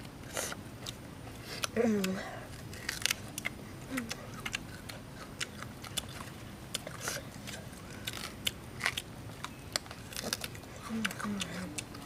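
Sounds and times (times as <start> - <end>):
mouth clicks and crunches: 0.0 - 12.0
people biting and chewing: 0.0 - 12.0.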